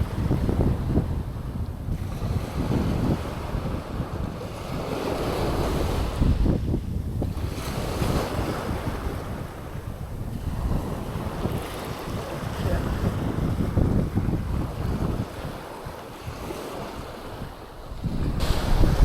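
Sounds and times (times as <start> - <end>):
waves breaking on a beach: 0.0 - 19.0
wind buffeting microphone: 0.0 - 19.0.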